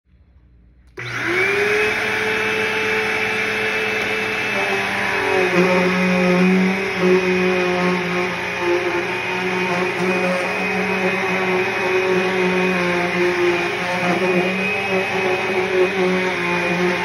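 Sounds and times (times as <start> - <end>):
vacuum cleaner motor running: 1.0 - 17.0.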